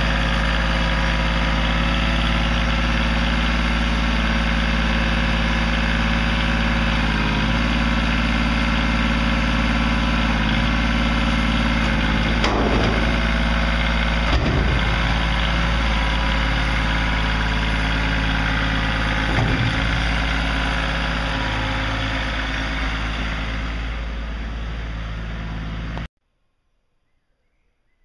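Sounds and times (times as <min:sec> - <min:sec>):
tractor engine and flail running: 0:00.0 - 0:26.1.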